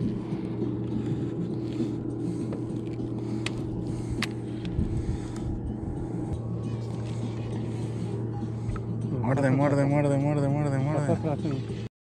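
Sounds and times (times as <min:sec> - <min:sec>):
boat motor humming: 0:00.0 - 0:11.9.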